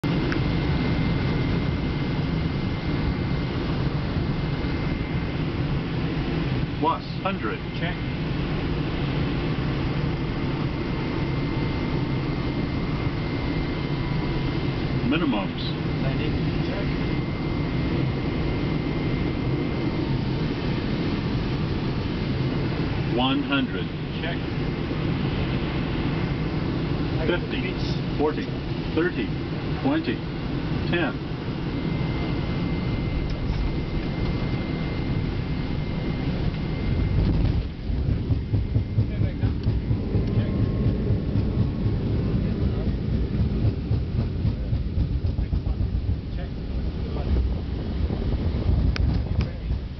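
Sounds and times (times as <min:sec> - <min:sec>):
airflow and engine rumble: 0:00.0 - 0:49.9.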